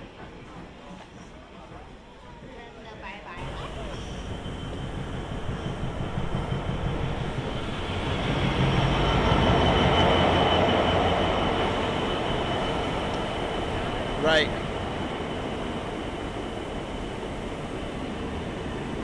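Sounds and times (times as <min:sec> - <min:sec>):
train rumble: 0:03.3 - 0:19.0.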